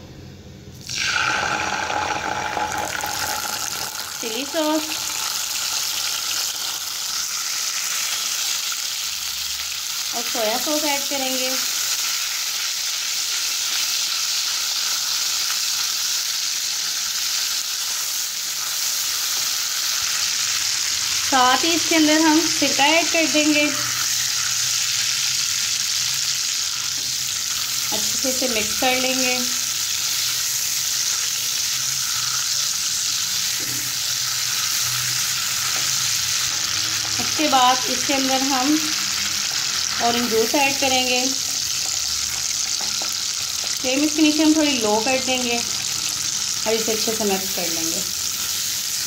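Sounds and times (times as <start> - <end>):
sauce sizzling in hot oil: 0.8 - 49.0.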